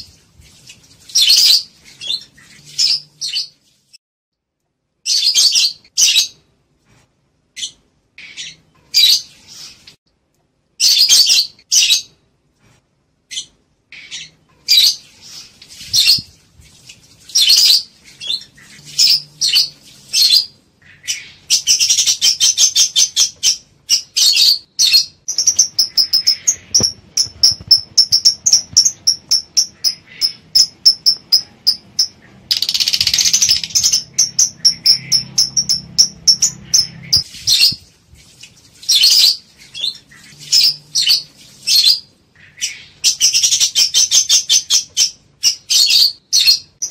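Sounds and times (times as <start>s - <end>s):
lovebirds chirping and squawking: 1.1s - 3.6s, 5.0s - 6.4s, 7.6s - 10.0s, 10.8s - 12.2s, 13.3s - 16.4s, 17.2s - 37.9s, 38.8s - 46.9s.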